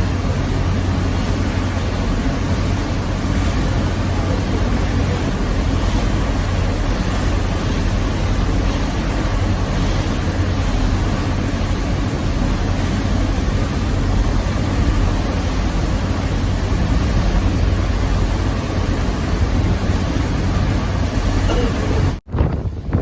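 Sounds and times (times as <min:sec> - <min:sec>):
boat engine hum: 0:00.0 - 0:23.0
wind on microphone: 0:00.0 - 0:23.0.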